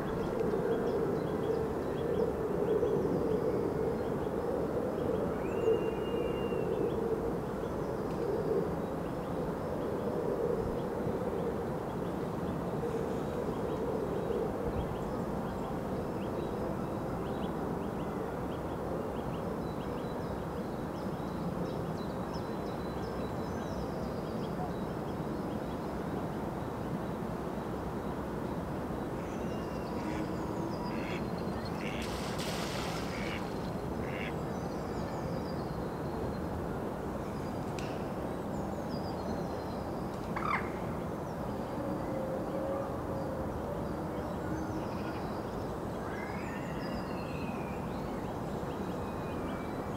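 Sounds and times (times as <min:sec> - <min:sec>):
wind rustling trees: 0:00.0 - 0:49.9.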